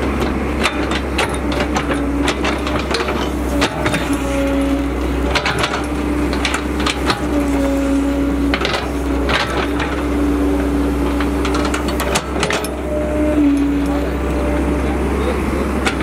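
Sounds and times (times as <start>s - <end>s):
excavator engine rumble: 0.0s - 16.0s
hydraulic humming tone: 0.0s - 16.0s.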